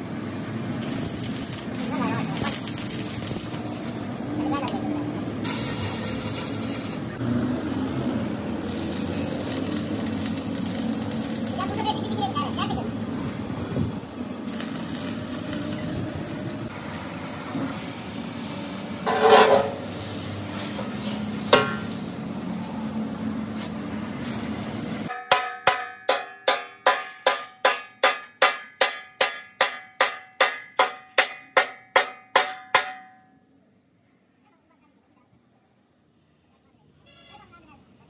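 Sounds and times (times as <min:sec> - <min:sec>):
metal workshop noise: 0:00.6 - 0:33.4.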